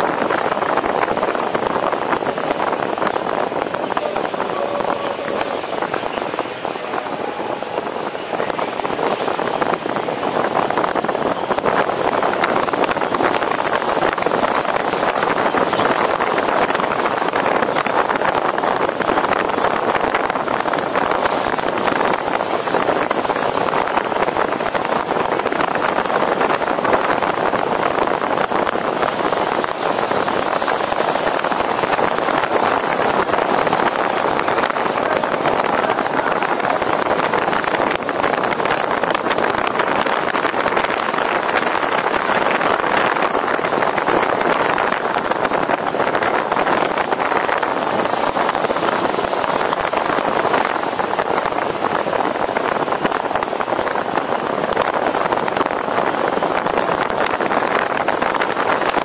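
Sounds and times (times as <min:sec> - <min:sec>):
air and road rushing: 0:00.0 - 0:59.0.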